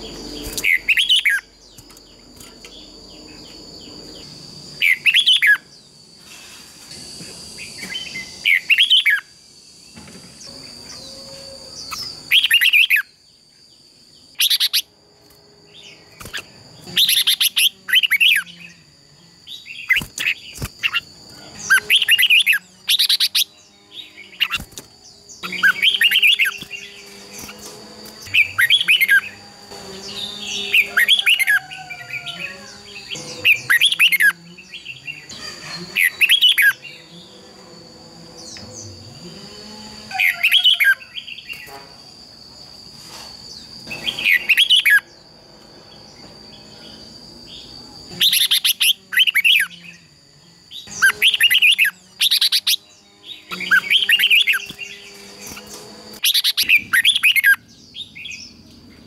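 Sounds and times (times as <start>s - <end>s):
birds singing warbling phrases: 0.0s - 5.9s, 7.6s - 9.4s, 10.4s - 14.9s, 15.7s - 37.5s, 38.3s - 41.8s, 43.8s - 45.3s, 46.0s - 59.0s.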